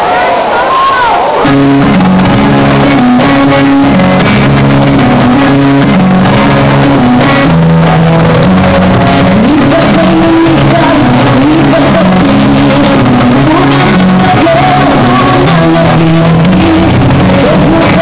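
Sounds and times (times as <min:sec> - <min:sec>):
instrumental melody: 0:01.4 - 0:18.0.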